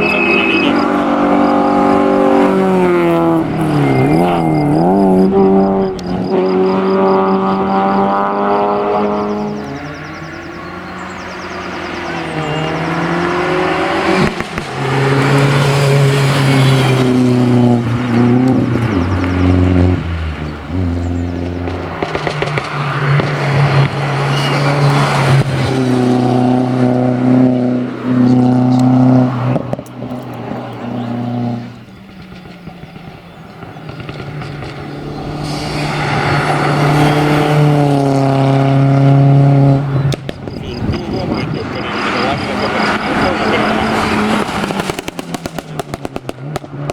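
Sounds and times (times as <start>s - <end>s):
race car engine revving and upshifting: 0.0s - 46.9s.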